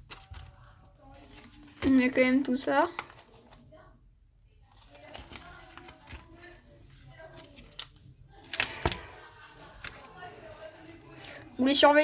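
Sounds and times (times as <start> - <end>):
cards tapping and rustling: 0.0 - 3.6, 4.8 - 11.4.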